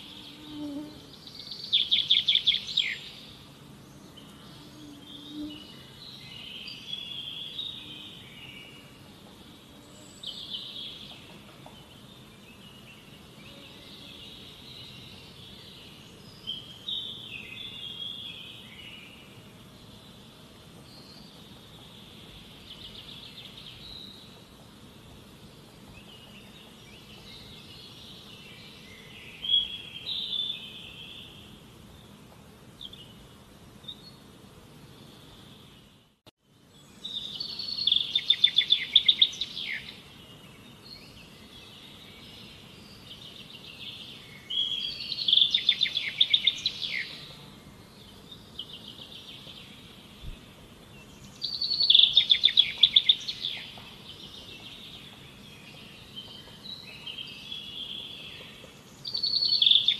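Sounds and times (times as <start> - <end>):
faint steady background hiss: 0.0 - 59.9
songbird singing: 0.0 - 59.9.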